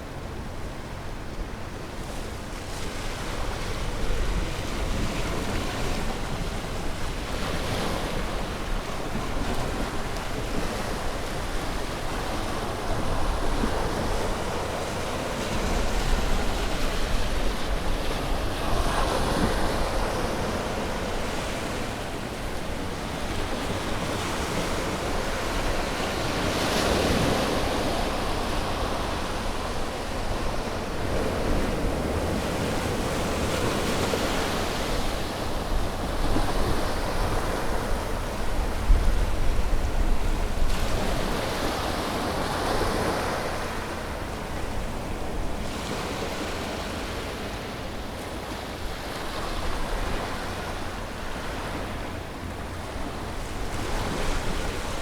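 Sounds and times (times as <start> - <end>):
ocean waves breaking on shore: 0.0 - 55.0
wind rumble on microphone: 1.1 - 55.0.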